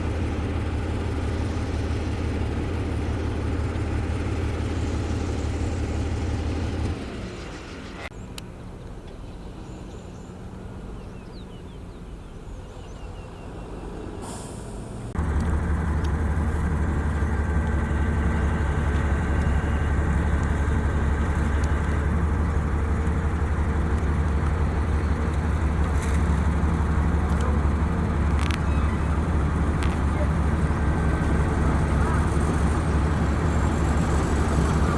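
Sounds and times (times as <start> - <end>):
heavy diesel engine running: 0.0 - 9.1, 13.7 - 34.9.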